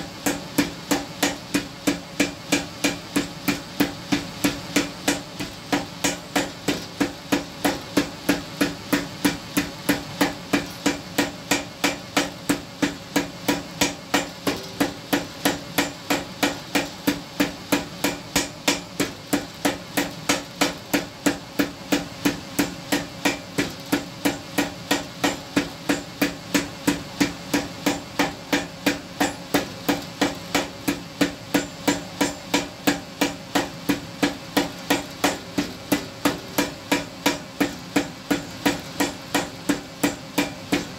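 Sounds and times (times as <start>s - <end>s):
hammer striking iron on anvil: 0.0s - 40.9s.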